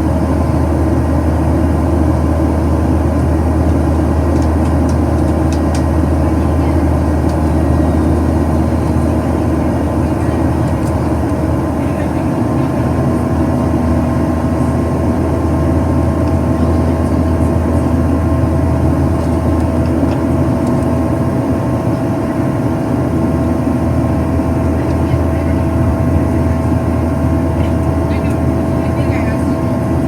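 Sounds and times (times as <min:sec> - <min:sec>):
airplane cabin drone: 0:00.0 - 0:30.0.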